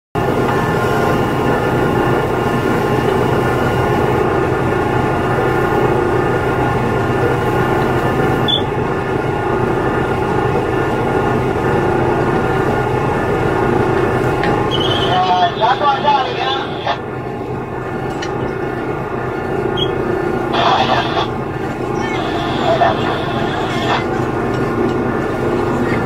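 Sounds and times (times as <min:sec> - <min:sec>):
boat engine droning: 0:00.2 - 0:26.0.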